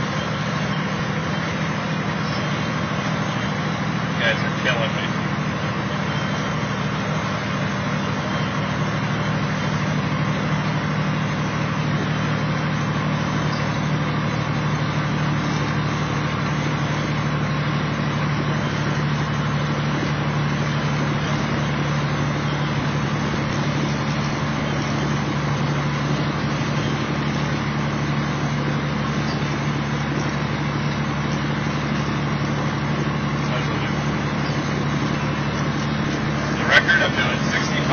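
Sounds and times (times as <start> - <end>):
diesel truck engine drone: 0.0 - 37.9
road noise: 0.0 - 37.9.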